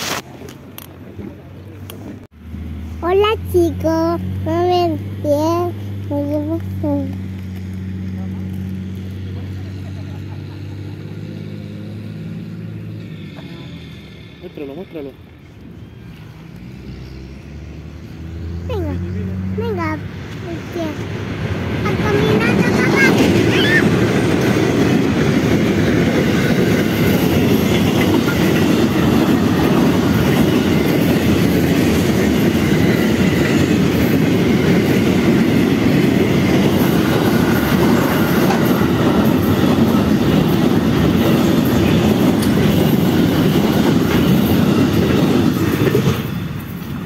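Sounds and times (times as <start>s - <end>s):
freight train rumbling past: 0.0s - 47.0s.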